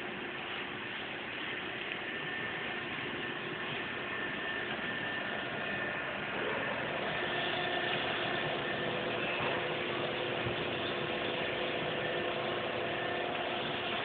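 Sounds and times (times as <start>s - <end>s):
factory machinery humming: 0.0s - 14.0s
steady machine tones: 0.0s - 14.0s.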